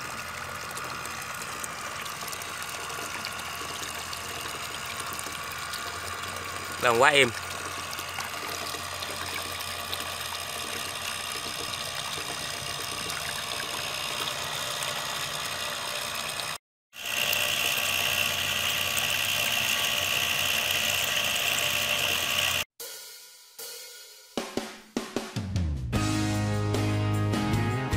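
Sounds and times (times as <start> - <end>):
electric motor running: 0.0 - 22.7
water gushing from pipe: 0.0 - 22.7.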